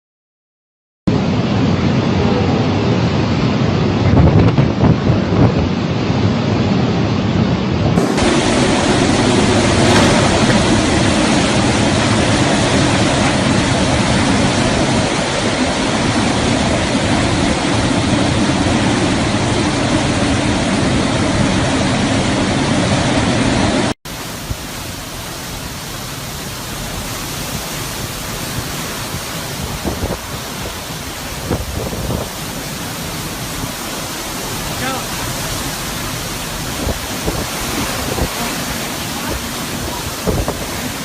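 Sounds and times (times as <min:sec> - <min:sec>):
hurricane wind and rain rushing: 0:01.1 - 0:41.0.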